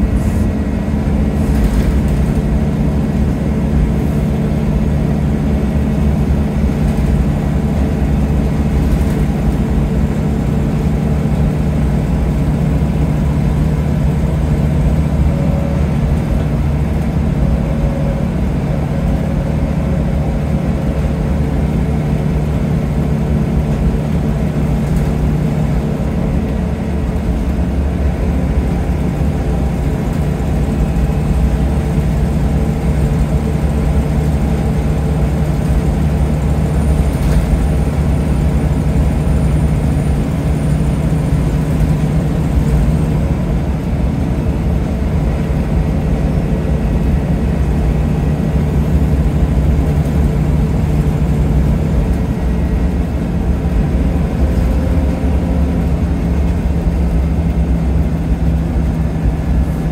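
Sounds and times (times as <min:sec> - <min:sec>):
bus diesel engine drone: 0:00.0 - 0:59.9
road noise: 0:00.0 - 0:59.9.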